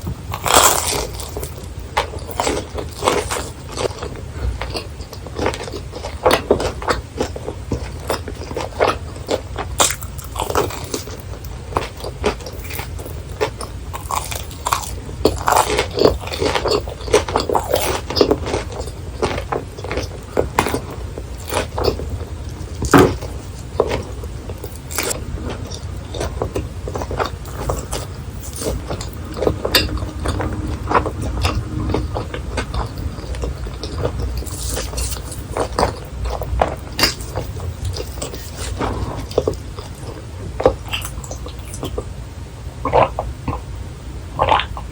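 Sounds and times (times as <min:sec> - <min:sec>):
crunching crisp snacks: 0:00.0 - 0:42.0.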